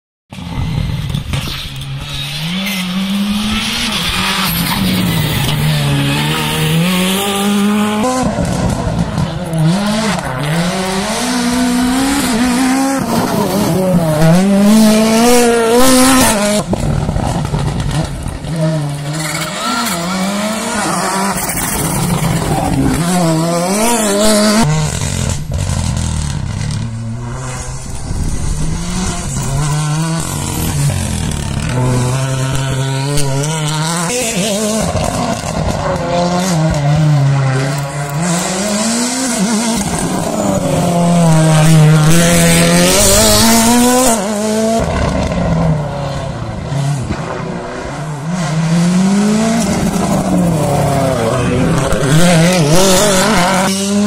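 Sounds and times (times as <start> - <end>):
rally car engines revving: 0.3 - 54.0.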